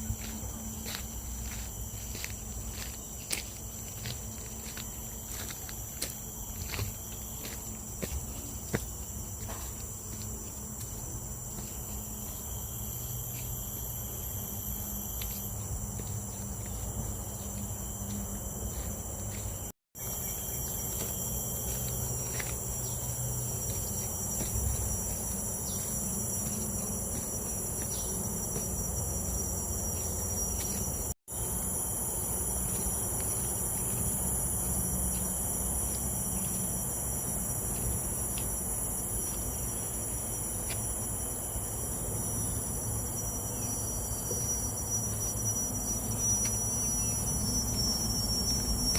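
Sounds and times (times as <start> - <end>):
insect chorus: 0.0 - 48.9.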